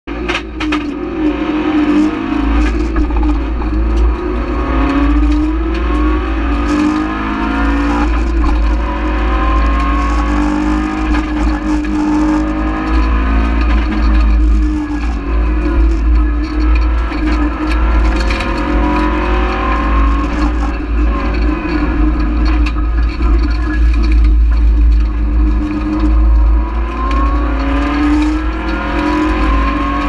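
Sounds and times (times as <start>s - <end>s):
low road rumble: 0.0s - 30.0s
rally car engine revving: 0.1s - 30.0s.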